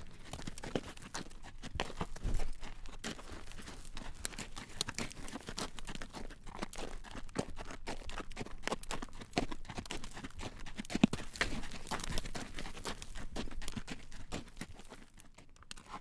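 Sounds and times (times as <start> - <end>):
horse hooves clip-clopping on road: 0.0 - 16.0.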